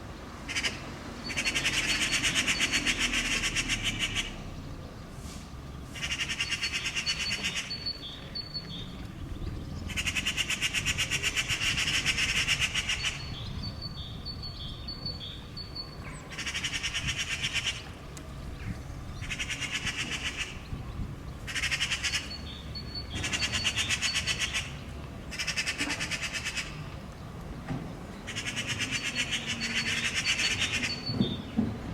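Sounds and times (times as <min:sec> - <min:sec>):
magpies rattling chatter: 0:00.5 - 0:04.4, 0:06.0 - 0:26.8, 0:28.3 - 0:31.6.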